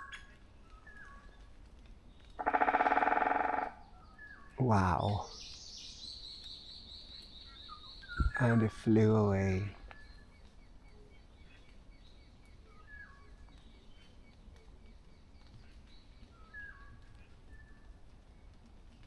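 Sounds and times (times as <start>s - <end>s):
distant forest birdsong: 0.0s - 19.0s.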